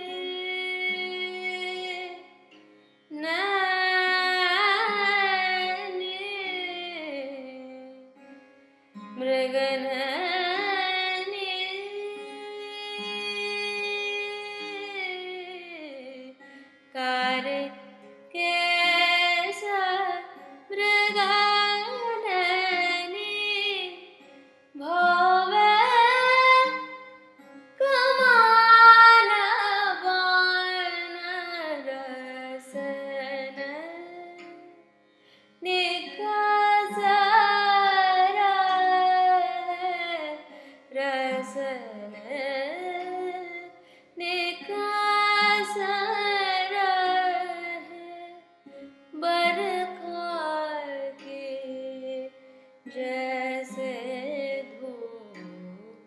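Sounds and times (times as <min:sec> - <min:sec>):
woman singing wordless phrases: 0:00.0 - 0:02.3, 0:03.1 - 0:08.1, 0:09.1 - 0:16.4, 0:17.0 - 0:24.1, 0:24.8 - 0:27.1, 0:27.8 - 0:34.8, 0:35.6 - 0:48.4, 0:49.2 - 0:56.0.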